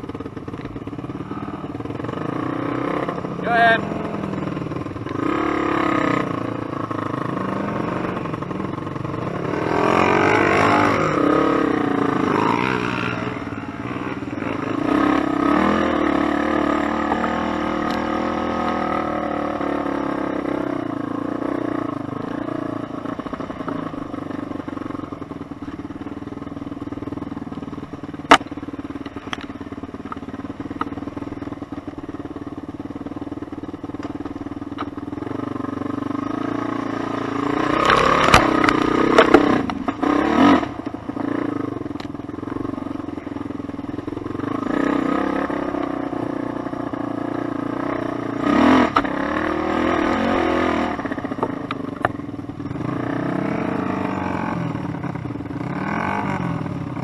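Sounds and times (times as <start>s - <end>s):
engine revving and rattling: 0.0s - 26.1s, 33.6s - 57.0s
quad bike engine running: 0.0s - 57.0s.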